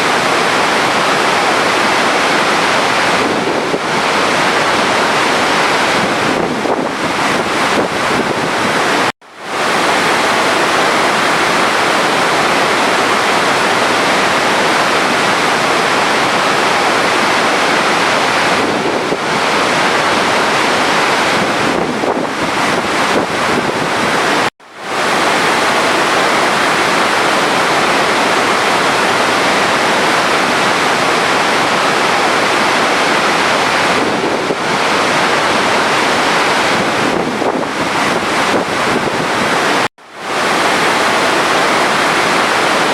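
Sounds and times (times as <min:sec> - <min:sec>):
running water rushing: 0:00.0 - 0:42.9.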